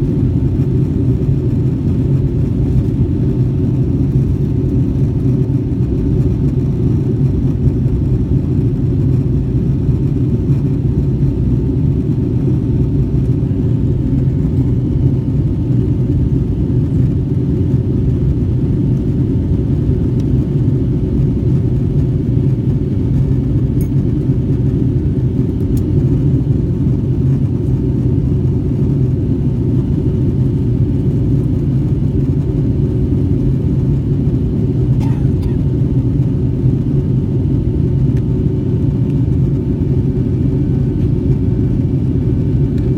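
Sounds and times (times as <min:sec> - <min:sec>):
airliner cabin engine rumble: 0:00.0 - 0:42.9
faint steady hum: 0:00.0 - 0:42.9.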